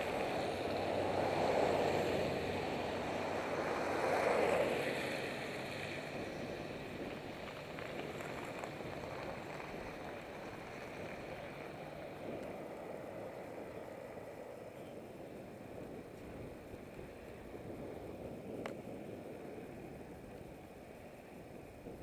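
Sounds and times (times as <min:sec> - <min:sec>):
road traffic: 0:00.0 - 0:22.0
wind rushing over microphone: 0:00.0 - 0:22.0.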